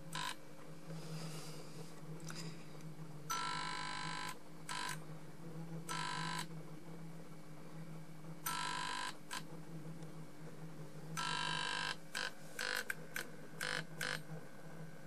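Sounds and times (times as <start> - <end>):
fluorescent tube harsh buzzes: 0.0 - 15.0
low mains hum: 0.0 - 15.0.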